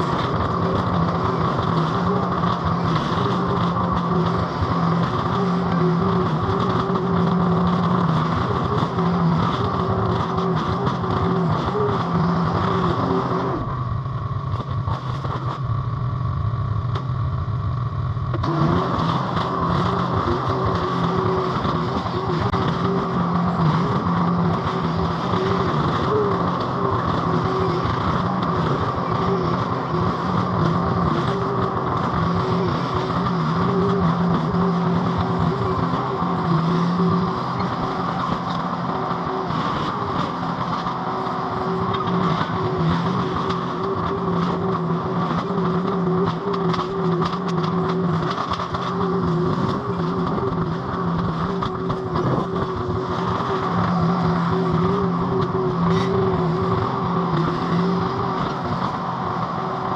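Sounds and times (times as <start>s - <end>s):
engine running at high throttle: 0.0s - 59.9s.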